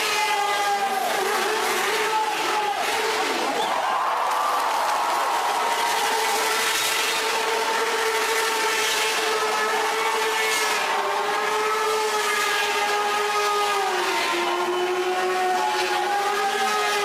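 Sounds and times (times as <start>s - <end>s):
motorcycle engine at high revs: 0.0s - 3.8s, 5.2s - 17.0s.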